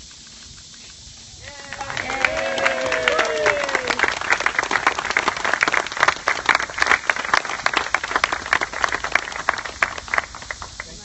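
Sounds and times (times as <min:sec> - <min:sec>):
audience clapping: 0:01.4 - 0:11.0.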